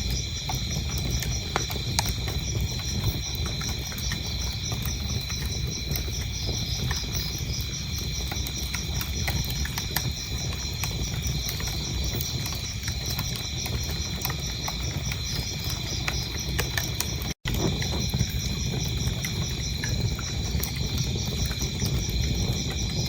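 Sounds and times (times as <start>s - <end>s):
crickets chirping: 0.0s - 23.0s
wood fire crackling and popping: 0.0s - 23.0s.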